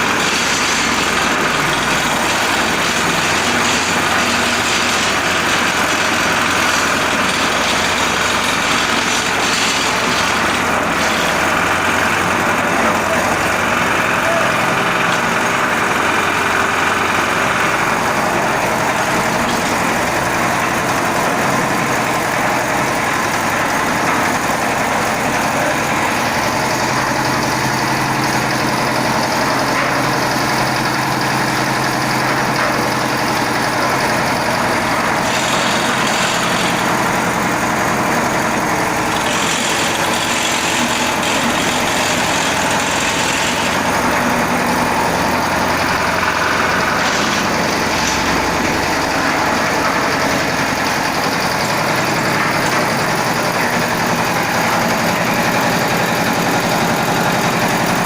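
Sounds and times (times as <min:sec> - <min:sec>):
concrete mixer engine running: 0:00.0 - 0:58.0.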